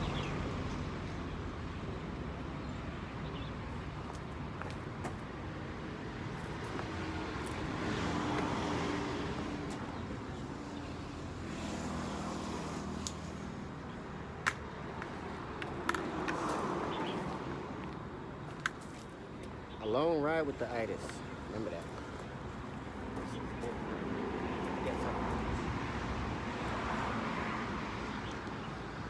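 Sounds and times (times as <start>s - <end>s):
vehicle rumble and road noise: 0.0s - 29.0s.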